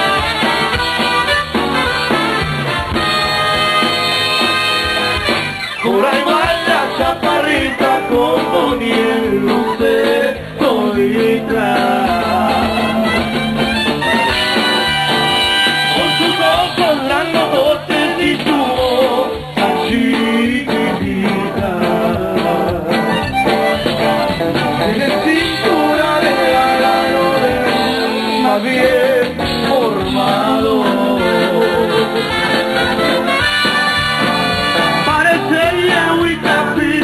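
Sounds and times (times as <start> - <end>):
live band music: 0.0 - 37.0.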